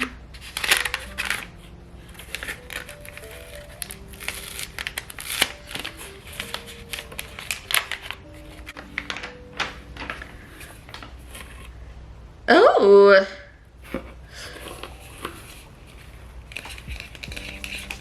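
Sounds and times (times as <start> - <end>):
wrapping paper crinkling and tearing: 0.0 - 11.8, 14.6 - 18.0
soft background music: 0.0 - 12.5, 14.4 - 18.0.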